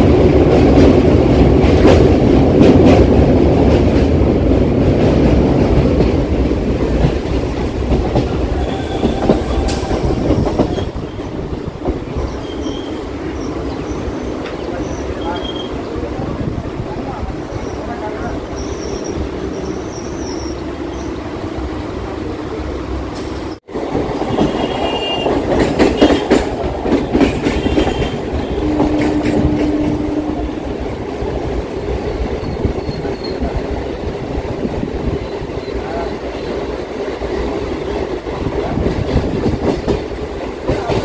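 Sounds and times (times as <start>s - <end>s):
train wheels clattering on rails: 0.0s - 16.8s, 23.1s - 41.0s.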